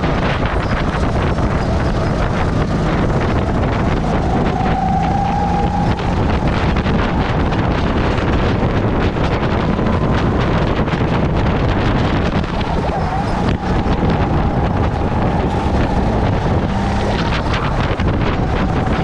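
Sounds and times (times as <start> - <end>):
kart engine running: 0.0 - 19.0
wind buffeting microphone: 0.0 - 19.0.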